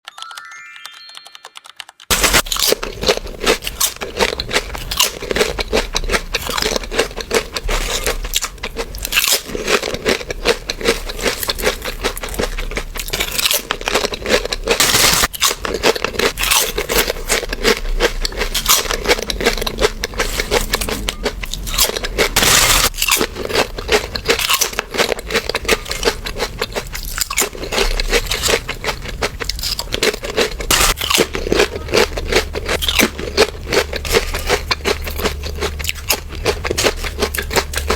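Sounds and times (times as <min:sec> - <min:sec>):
chewing crunchy snacks: 0:02.1 - 0:37.9.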